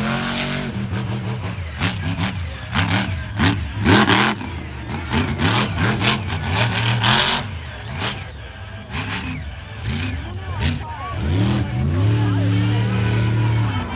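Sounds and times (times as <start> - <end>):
truck engine revving hard: 0.0 - 13.9.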